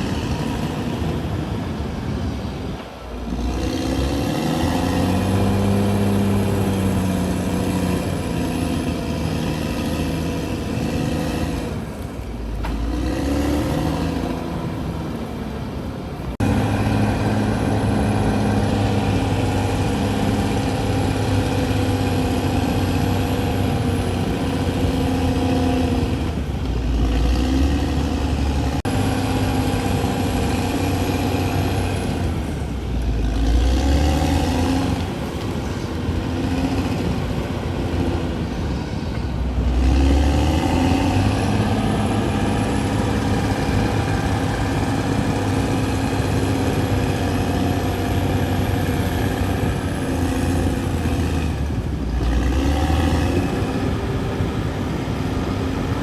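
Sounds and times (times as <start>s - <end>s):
bulldozer engine under load: 0.0s - 56.0s.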